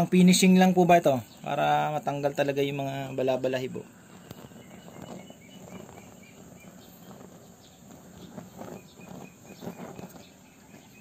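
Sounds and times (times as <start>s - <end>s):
insect chirping: 0.0s - 11.0s
outdoor background hum: 0.0s - 11.0s.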